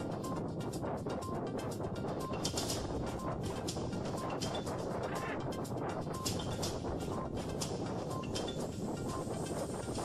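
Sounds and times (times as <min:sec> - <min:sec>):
background music with light beat: 0:00.0 - 0:10.0.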